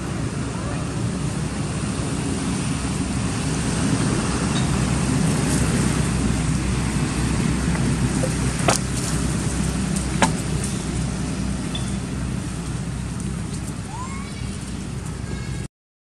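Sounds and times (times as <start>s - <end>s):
low rumbling noise: 0.0s - 15.7s.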